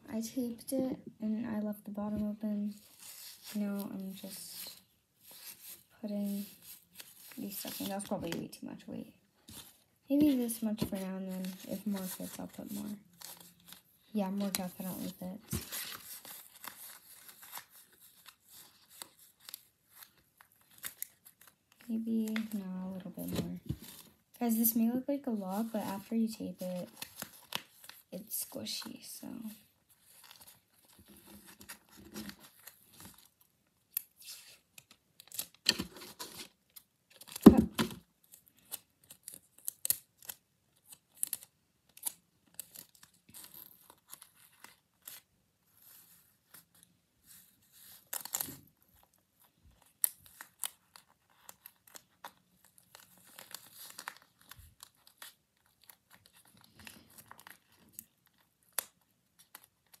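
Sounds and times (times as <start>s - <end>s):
paper crinkling and rustling: 2.0s - 8.8s, 9.4s - 60.0s.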